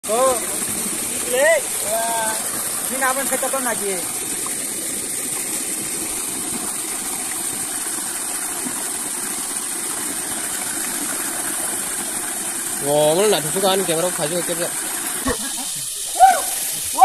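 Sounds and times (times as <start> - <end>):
waterfall rushing: 0.0 - 8.4, 10.5 - 17.0.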